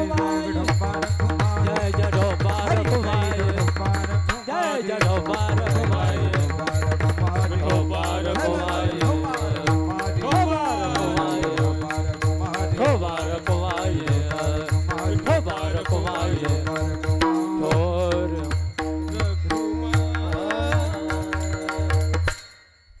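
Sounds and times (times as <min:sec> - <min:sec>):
voices singing: 0:00.0 - 0:17.0, 0:19.2 - 0:22.2
drum beating fast rhythm: 0:00.0 - 0:22.6.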